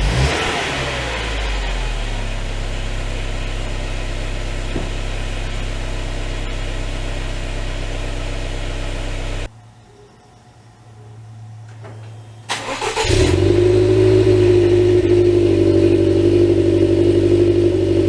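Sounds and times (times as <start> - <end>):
car engine idling: 0.0 - 9.5, 12.5 - 18.0.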